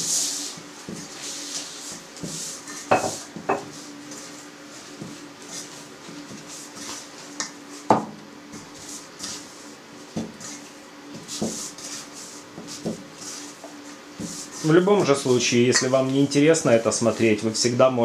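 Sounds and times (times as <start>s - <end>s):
dough squishing: 0.0s - 17.8s.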